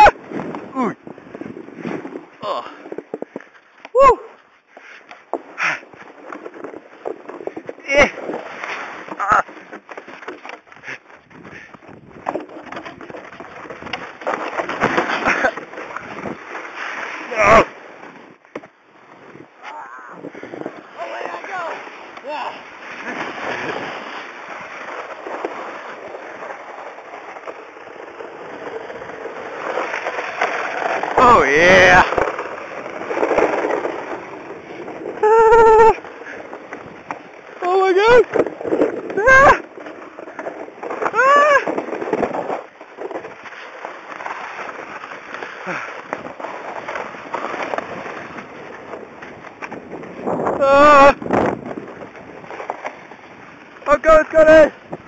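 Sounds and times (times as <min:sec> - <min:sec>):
sled scraping on snow: 0:00.0 - 0:55.0.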